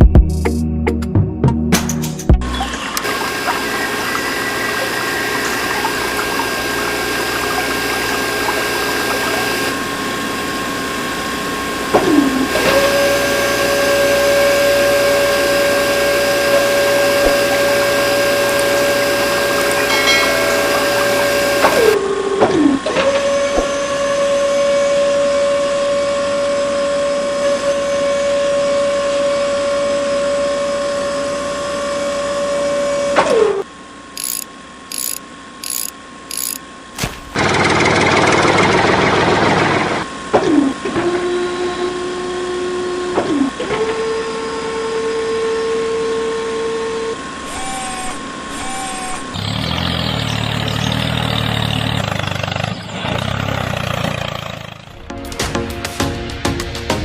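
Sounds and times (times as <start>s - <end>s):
small electric motors whining: 2.5s - 33.6s, 34.2s - 36.6s, 40.9s - 52.9s.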